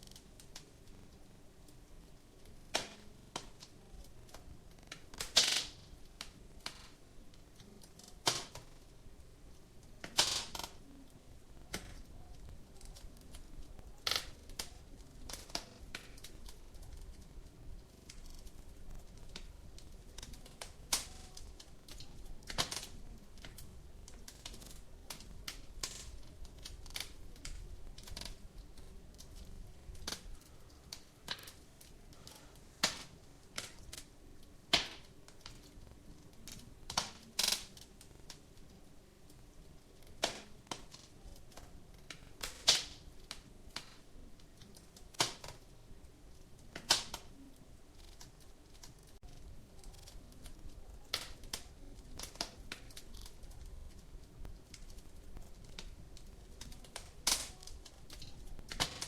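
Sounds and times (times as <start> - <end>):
sharp pops from fire: 0.0 - 9.1, 9.8 - 10.9, 11.6 - 59.0
wood fire crackling: 0.0 - 59.0.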